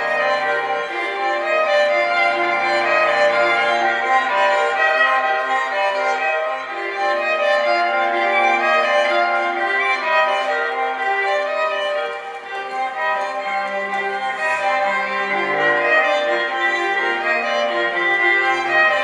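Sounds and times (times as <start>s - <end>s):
long held bowed-string notes: 0.0s - 19.0s.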